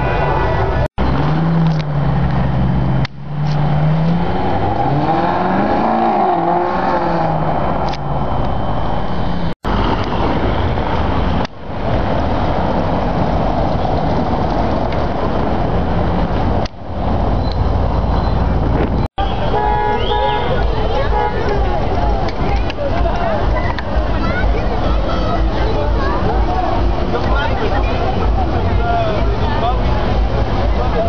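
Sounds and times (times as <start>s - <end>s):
sports car engines revving: 0.6s - 31.0s.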